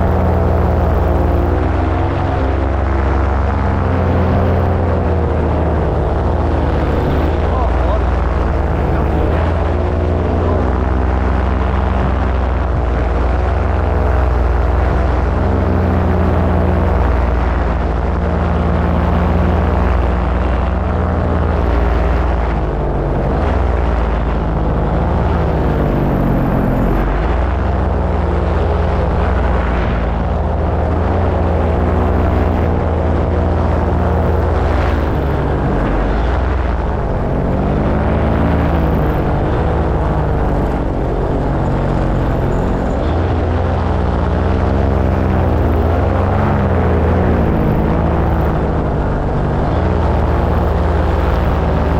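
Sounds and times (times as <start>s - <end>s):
paramotor engine drone: 0.0s - 51.9s
rushing wind noise: 0.0s - 51.9s.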